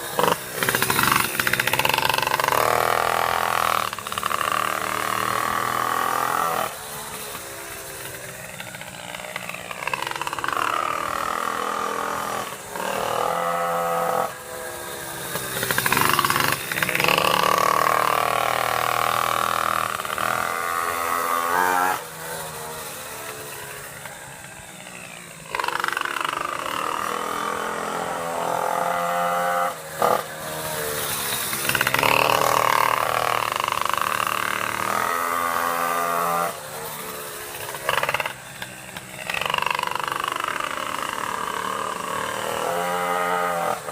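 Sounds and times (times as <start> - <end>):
two-stroke engine revving: 0.0 - 43.9.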